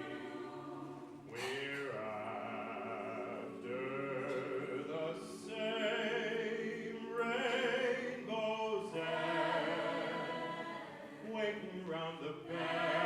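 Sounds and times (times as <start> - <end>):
a cappella group singing: 0.0 - 13.0.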